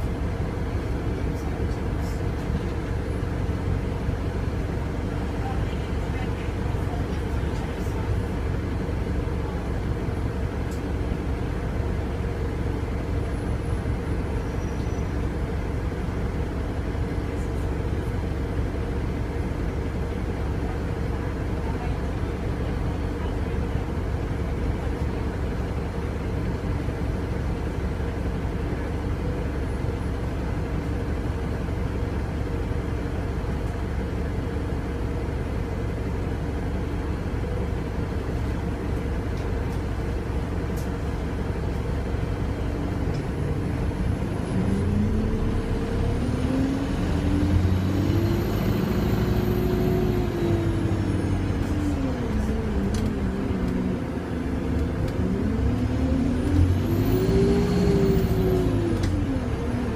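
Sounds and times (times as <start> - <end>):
bus diesel engine idling: 0.0 - 59.9.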